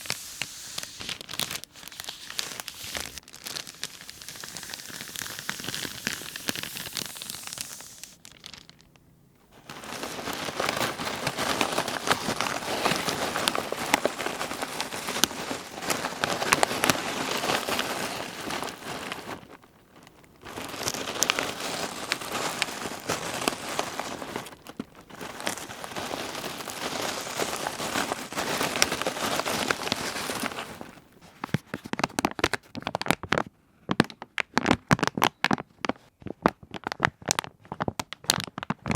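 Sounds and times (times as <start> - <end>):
plastic sheeting crinkling: 0.0 - 8.8, 9.5 - 33.5.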